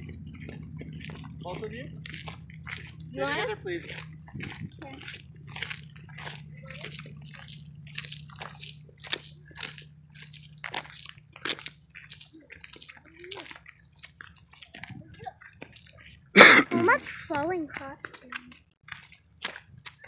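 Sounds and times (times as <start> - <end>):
footsteps crunching on gritty path: 0.0 - 20.0.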